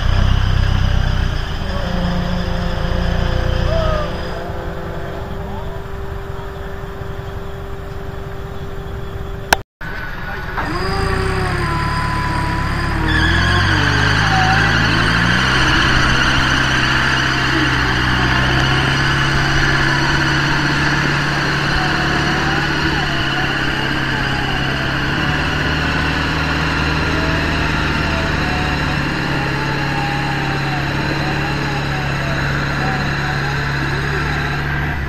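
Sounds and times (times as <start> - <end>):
engine revving under load: 0.0 - 35.0.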